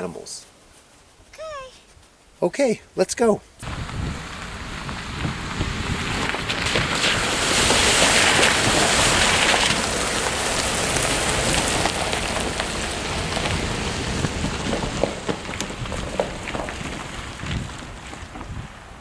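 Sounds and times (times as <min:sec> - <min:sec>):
stones ticking: 0:03.6 - 0:19.0
tyres hissing on gravel: 0:03.6 - 0:19.0.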